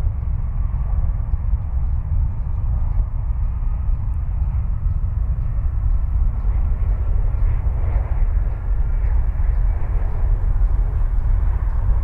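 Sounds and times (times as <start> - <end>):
jet engines rumbling: 1.9 - 12.0.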